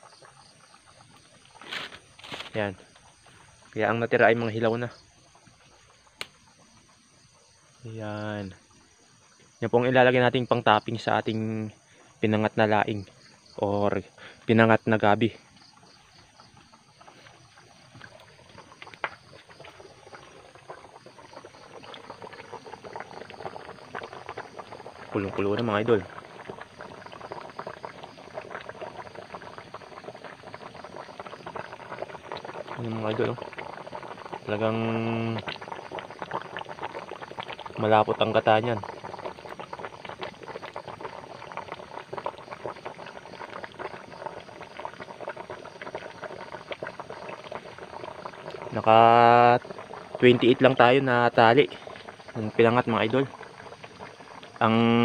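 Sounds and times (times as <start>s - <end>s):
pot boiling with bubbling: 0.0s - 55.0s.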